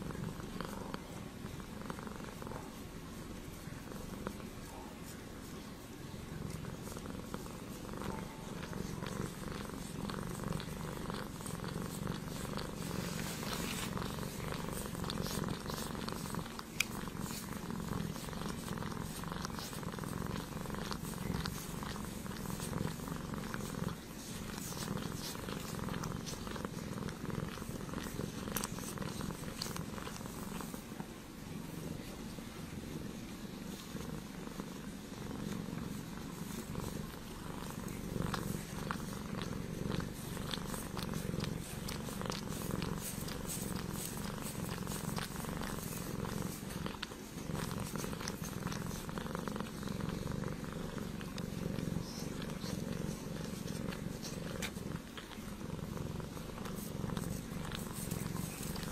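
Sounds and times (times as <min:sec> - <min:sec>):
faint crackles: 0:00.0 - 0:58.9
kitten purring: 0:00.0 - 0:58.9.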